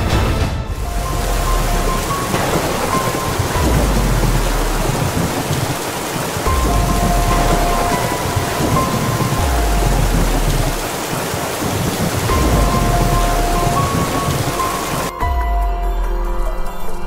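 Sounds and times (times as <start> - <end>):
heavy rain: 0.0 - 15.2
deep rolling thunder: 0.7 - 15.1.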